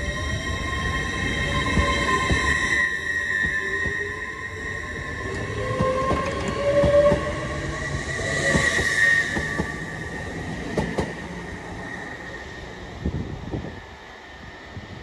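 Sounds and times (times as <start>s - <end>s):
train wheels squealing: 0.0s - 14.4s.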